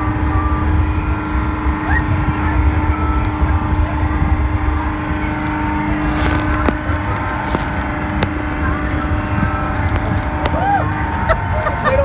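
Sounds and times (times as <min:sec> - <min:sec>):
motorboat engine rumbling: 0:00.0 - 0:12.0
wind and water noise: 0:00.0 - 0:12.0.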